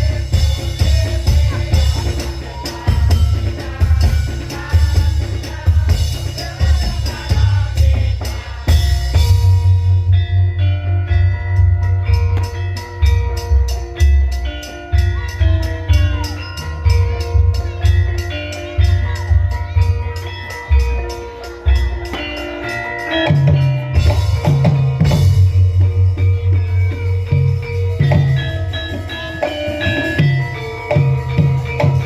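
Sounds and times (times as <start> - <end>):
hand drum beats: 0.0 - 32.0
metallophones and gongs melody: 0.0 - 32.0.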